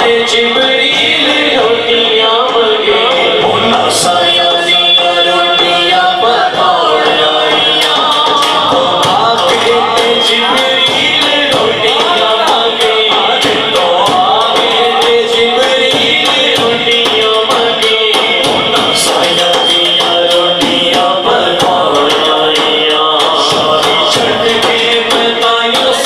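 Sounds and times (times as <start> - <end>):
frame drum beats: 0.0 - 26.0
man singing into a microphone: 0.0 - 26.0.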